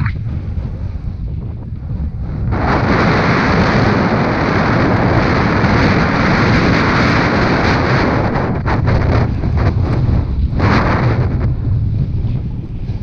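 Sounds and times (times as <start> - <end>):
wind rushing on camera microphone: 0.0 - 13.0
snowboard riding through powder: 0.2 - 13.0.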